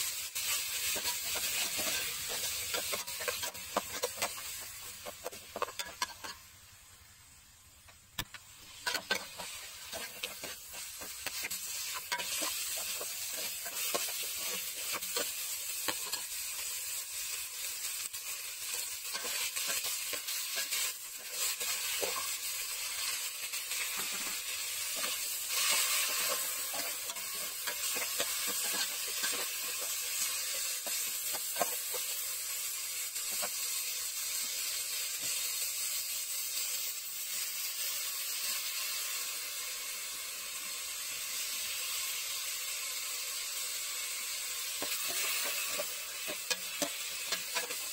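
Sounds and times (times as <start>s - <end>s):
meat sizzling in oil: 0.0s - 47.9s.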